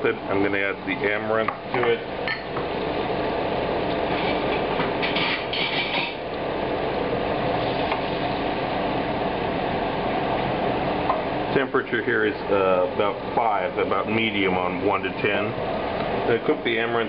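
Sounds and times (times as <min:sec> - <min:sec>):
butter and flour bubbling: 0:00.1 - 0:17.0.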